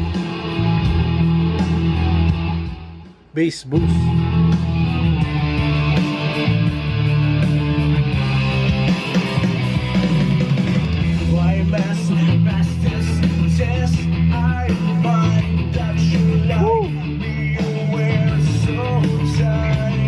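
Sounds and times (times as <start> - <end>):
rock song through speaker: 0.0 - 20.0.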